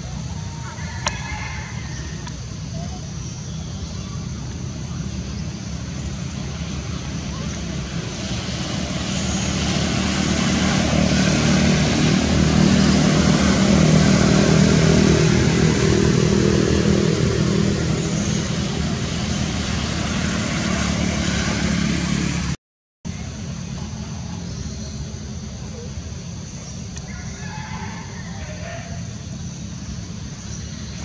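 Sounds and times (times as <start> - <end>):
passing engine: 0.0 - 31.0.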